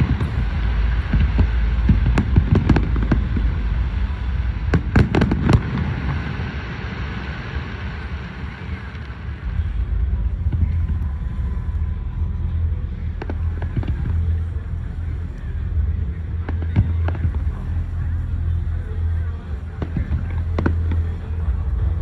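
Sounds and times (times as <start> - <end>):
fireworks bursting with sharp bangs: 0.0 - 22.0
low rumble of booms: 0.0 - 22.0.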